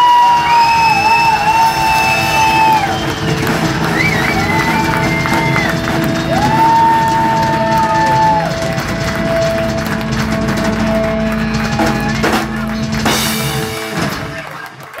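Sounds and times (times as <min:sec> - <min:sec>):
heavy metal band playing: 0:00.0 - 0:14.6.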